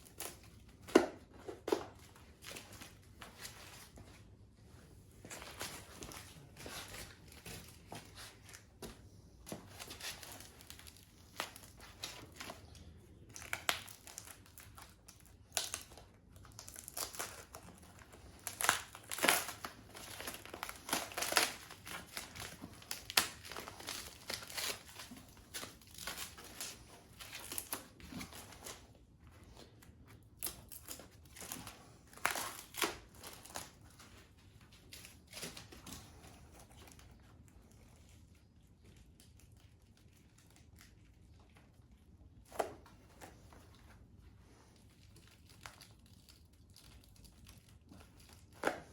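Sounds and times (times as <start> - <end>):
plastic wrap crinkling: 5.0 - 48.9.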